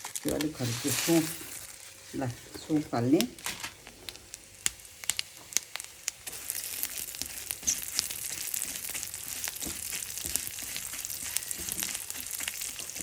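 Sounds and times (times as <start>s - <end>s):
crackling and popping: 0.0s - 13.0s
seeds sizzling in hot oil: 0.0s - 13.0s.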